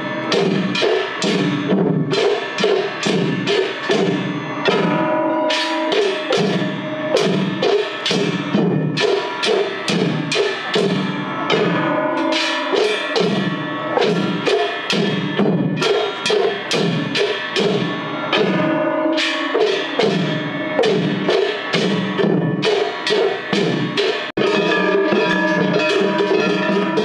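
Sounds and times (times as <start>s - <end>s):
brass gongs clanging: 0.0s - 27.0s
taiko drums: 0.0s - 27.0s.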